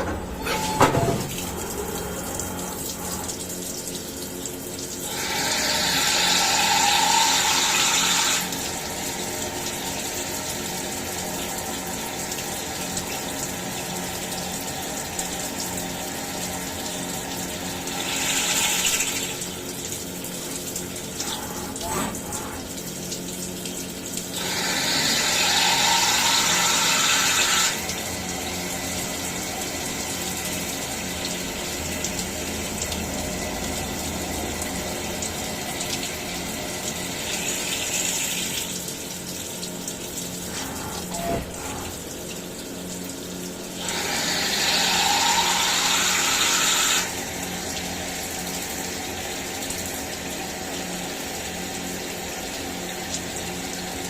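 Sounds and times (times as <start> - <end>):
coolant splashing: 0.0 - 54.0
milling machine humming: 0.0 - 54.0.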